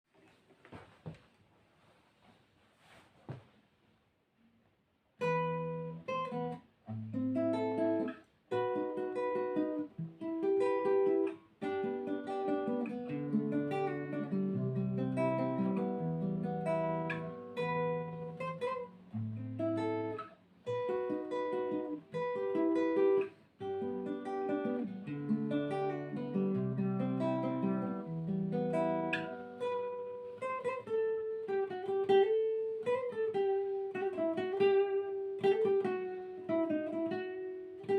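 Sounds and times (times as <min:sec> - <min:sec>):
acoustic plucked string instrument: 0:05.2 - 0:37.9.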